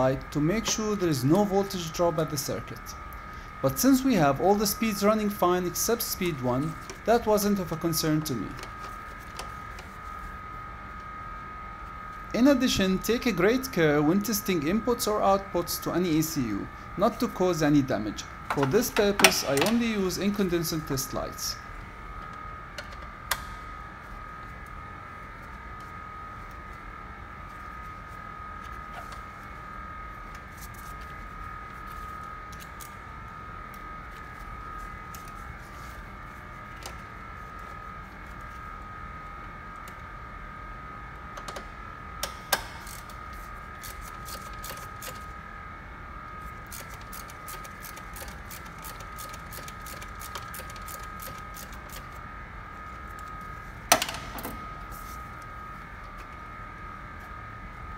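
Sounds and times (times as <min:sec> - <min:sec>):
steady high hum: 0:00.0 - 0:57.9.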